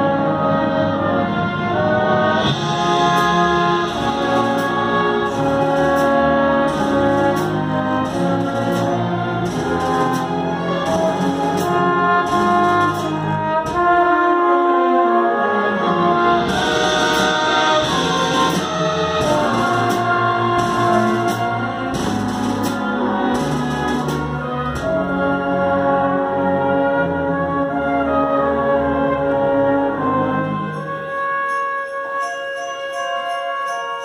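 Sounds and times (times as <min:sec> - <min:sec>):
orchestra playing chords: 0:00.0 - 0:32.4.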